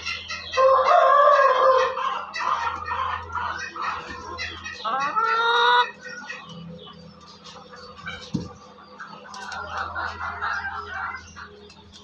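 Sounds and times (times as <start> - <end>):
chickens calling and clucking: 0.0 - 12.0.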